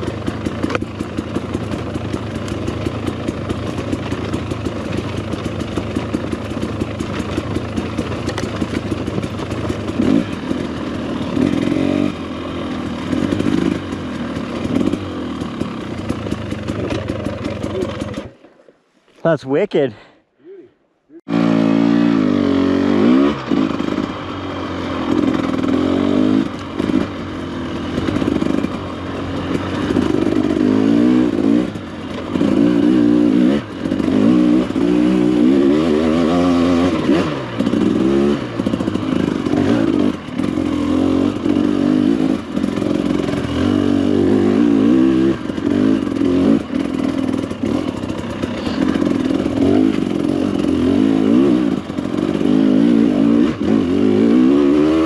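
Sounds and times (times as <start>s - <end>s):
dirt bike engine revving: 0.0s - 18.4s, 21.2s - 55.0s.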